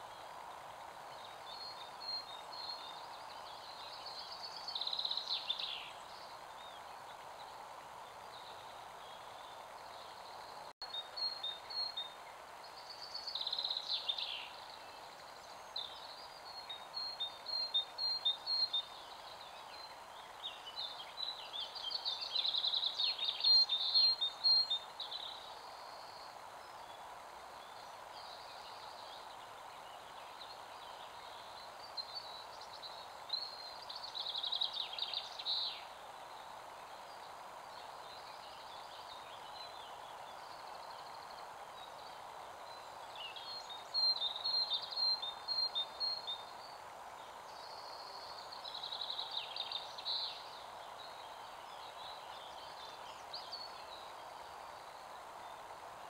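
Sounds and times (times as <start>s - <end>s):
background hiss: 0.0s - 56.0s
songbirds chirping: 0.0s - 56.0s.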